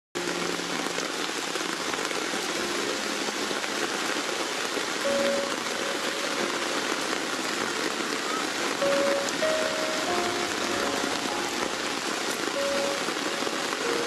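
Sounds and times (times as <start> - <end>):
heavy rain on pavement: 0.2 - 14.0.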